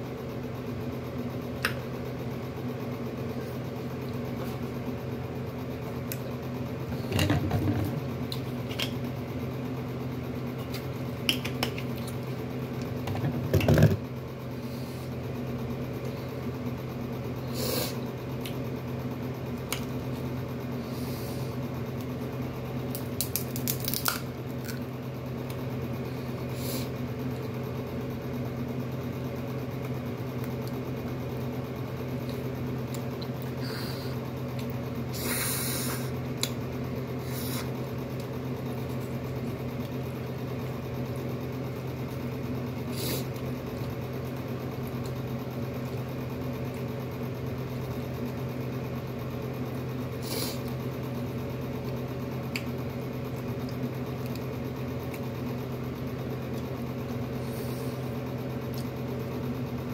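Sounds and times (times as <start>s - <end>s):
low appliance hum: 0.0s - 59.9s.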